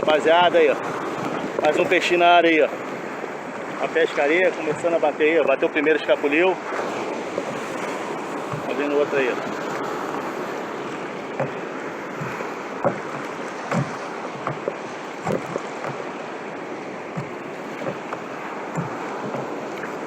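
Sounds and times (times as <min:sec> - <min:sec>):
sea water washing: 0:00.0 - 0:20.0
water slapping against hull: 0:00.0 - 0:20.0.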